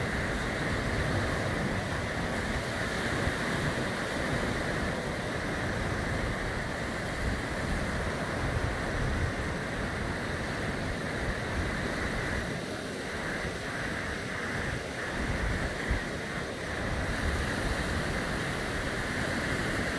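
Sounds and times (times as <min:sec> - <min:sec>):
small waves breaking on beach: 0:00.0 - 0:19.9
wind gusting on microphone: 0:00.0 - 0:19.9.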